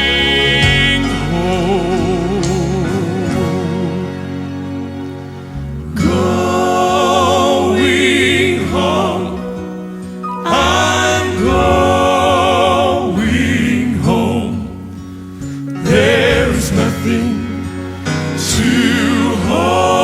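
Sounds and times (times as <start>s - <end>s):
male vocal quartet singing: 0.0s - 4.6s, 5.5s - 20.0s.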